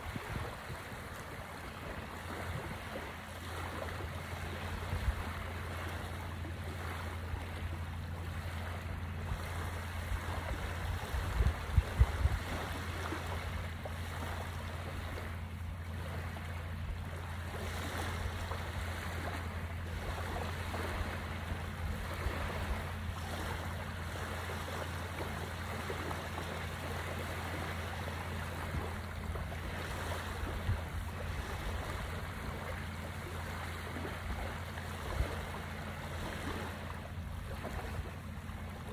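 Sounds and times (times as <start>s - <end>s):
small waves washing on shore: 0.0s - 38.9s.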